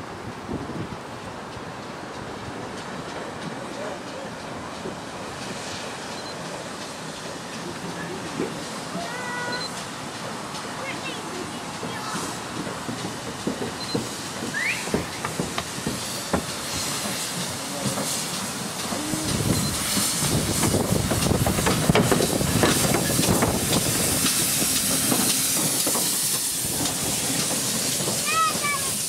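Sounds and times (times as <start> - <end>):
steam locomotive passing: 0.0 - 29.0
train clicks and knocks: 0.0 - 29.0
steam hissing: 1.4 - 29.0.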